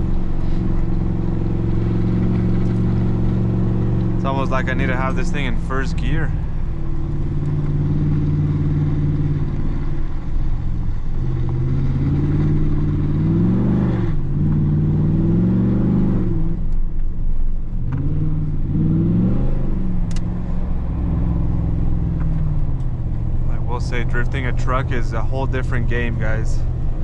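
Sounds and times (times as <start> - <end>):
engine revving: 0.0 - 16.8, 17.8 - 27.0.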